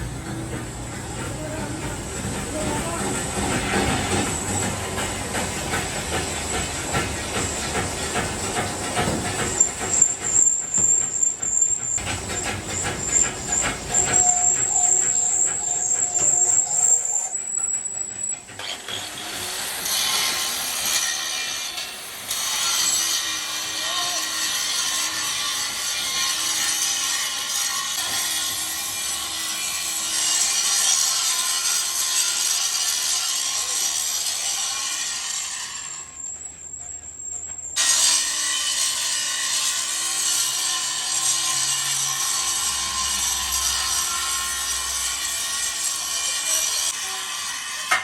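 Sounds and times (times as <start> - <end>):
power tool sawing: 0.0 - 36.3, 37.8 - 48.0.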